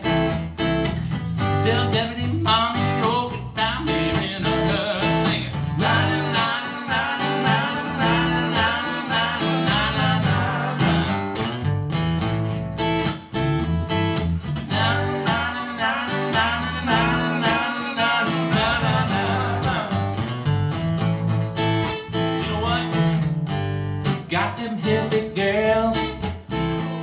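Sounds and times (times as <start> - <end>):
acoustic guitar strumming chords: 0.0 - 27.0
wavering guitar lead melody: 0.0 - 27.0.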